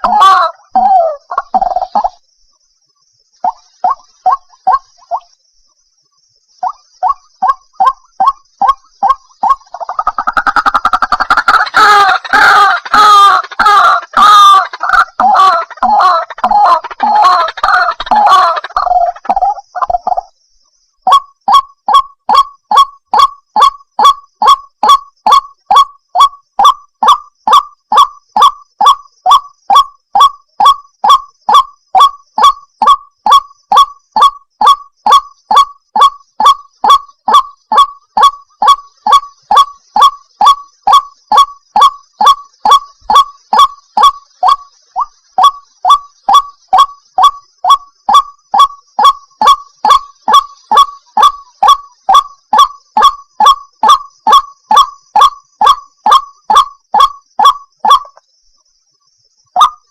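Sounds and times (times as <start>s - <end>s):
waterhen call: 0.0s - 2.2s, 3.4s - 5.3s, 6.6s - 20.3s, 21.1s - 58.2s, 59.6s - 59.9s.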